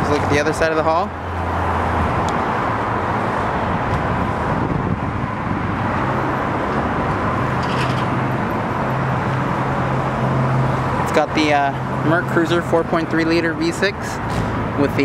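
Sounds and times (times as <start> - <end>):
outdoor traffic: 0.0 - 15.0.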